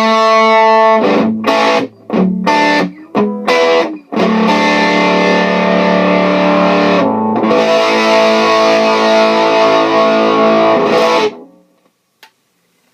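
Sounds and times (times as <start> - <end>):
fuzz electric guitar chords: 0.0 - 11.7.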